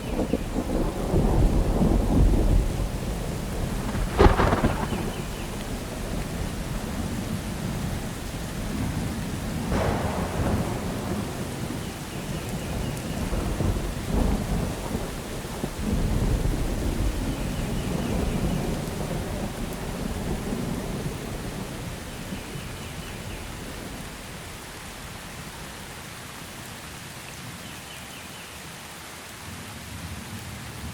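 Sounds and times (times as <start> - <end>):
thunder rumbling: 0.0 - 25.9
steady rain falling: 0.0 - 30.9.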